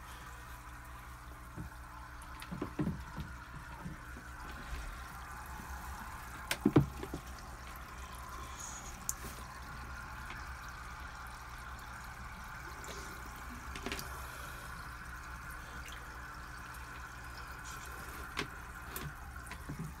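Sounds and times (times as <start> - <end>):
water lapping and dripping: 0.0 - 20.0.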